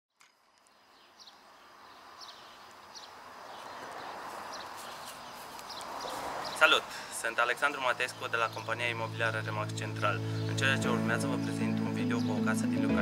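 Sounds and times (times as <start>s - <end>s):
background hiss: 0.2s - 12.4s
bird chirping: 0.2s - 13.0s.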